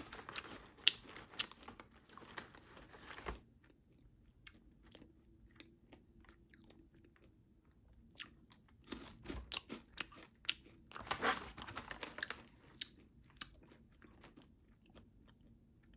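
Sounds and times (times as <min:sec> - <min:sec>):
crisps being bitten and chewed: 0:00.0 - 0:02.8, 0:03.4 - 0:15.9.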